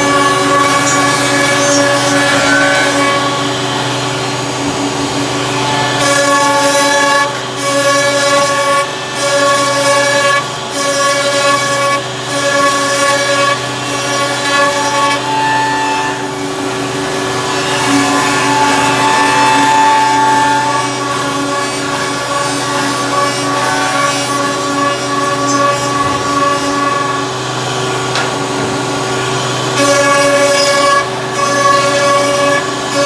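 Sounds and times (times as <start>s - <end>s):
wood router running: 0.0s - 33.0s.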